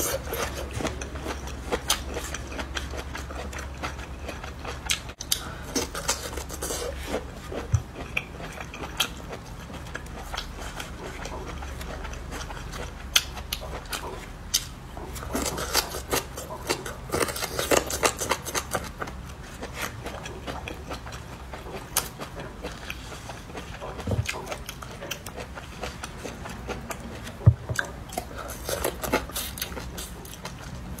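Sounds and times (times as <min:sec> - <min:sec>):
crunching and chewing: 0:00.0 - 0:31.0.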